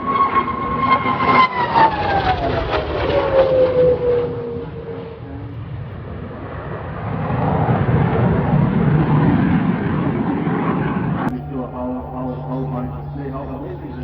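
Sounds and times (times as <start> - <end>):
jet aircraft engine roar: 0.0 - 14.0.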